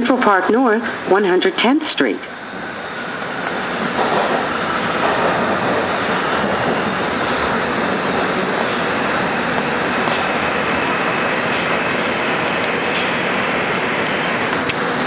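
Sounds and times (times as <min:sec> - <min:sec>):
subway car wheels rumbling on rails: 0:00.0 - 0:15.0.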